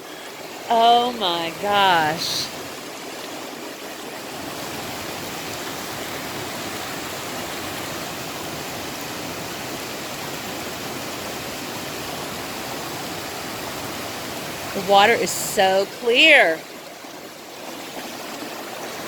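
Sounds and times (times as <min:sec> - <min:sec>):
creek water cascading over rocks: 0:00.0 - 0:19.0.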